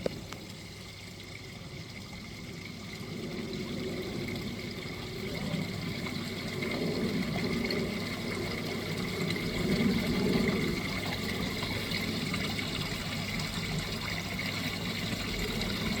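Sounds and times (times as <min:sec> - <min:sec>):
waterfall splashing into pond: 0:00.0 - 0:16.0.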